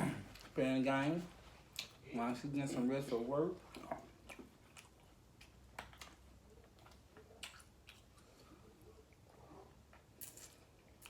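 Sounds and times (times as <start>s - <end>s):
faint chewing smacks and clicks: 1.5s - 11.0s.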